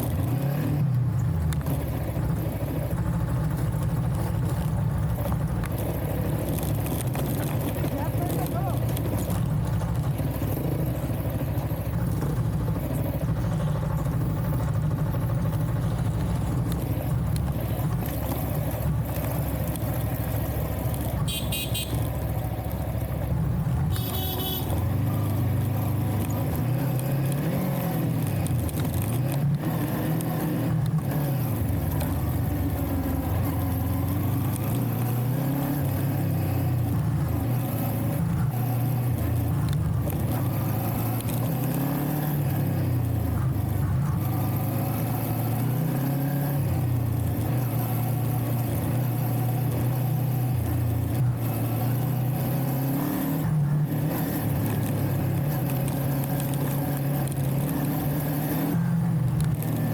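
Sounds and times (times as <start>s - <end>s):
vehicle engine revving: 0.0s - 59.9s.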